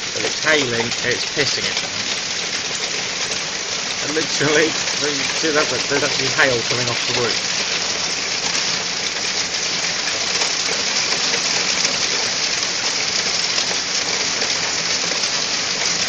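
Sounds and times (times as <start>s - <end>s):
hail and rain pelting: 0.0s - 16.0s.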